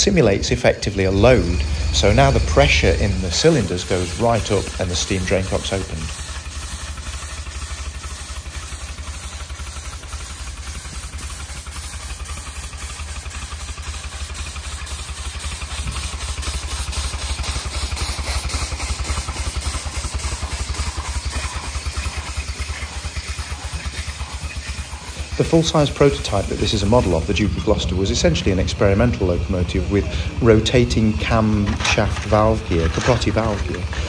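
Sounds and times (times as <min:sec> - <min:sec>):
steady low hum: 0:00.0 - 0:34.0
steam hissing: 0:00.0 - 0:34.0
steam locomotive exhaust beat: 0:00.0 - 0:34.0.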